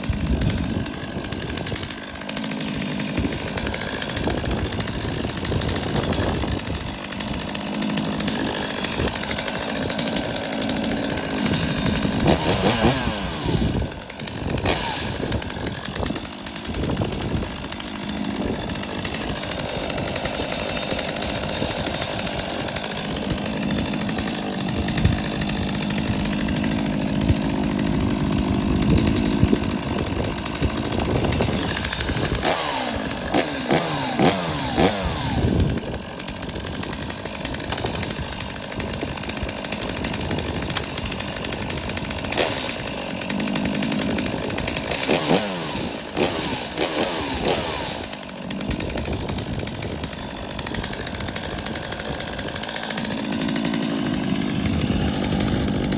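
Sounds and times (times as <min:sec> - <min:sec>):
chainsaw engine revving: 0:00.0 - 0:55.9.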